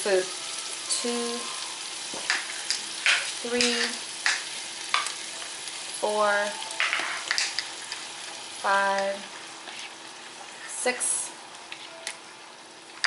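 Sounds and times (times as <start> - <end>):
faint sizzle from pan: 0.0 - 13.0.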